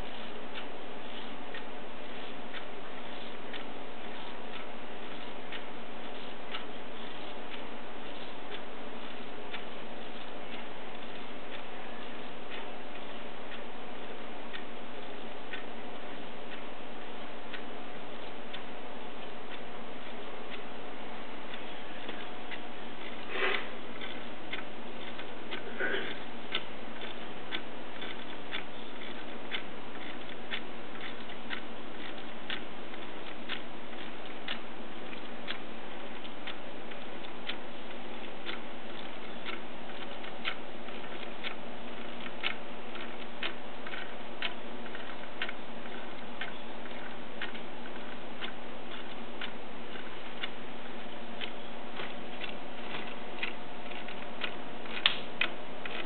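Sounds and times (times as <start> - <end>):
clock ticking with wooden clicks: 0.0 - 56.0.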